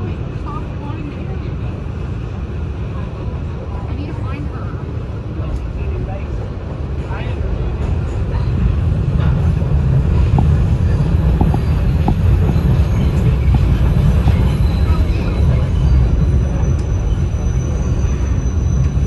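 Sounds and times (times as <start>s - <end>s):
subway car rumble: 0.0s - 19.0s
train passing alongside: 0.0s - 19.0s.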